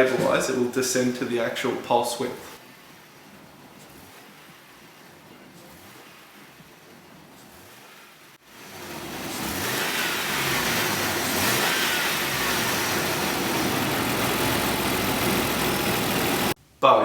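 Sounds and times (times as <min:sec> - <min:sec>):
petrol engine revving: 0:02.6 - 0:16.6.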